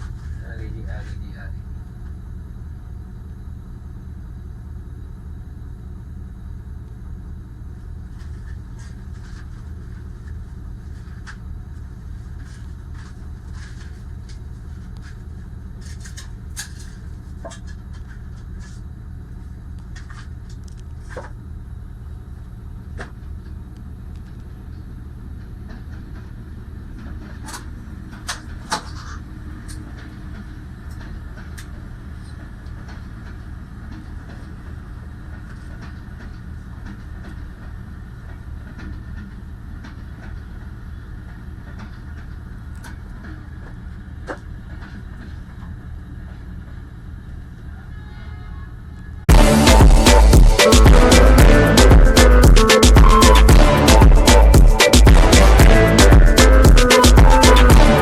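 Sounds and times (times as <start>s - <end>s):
distant diesel train rumble: 0.0s - 58.0s.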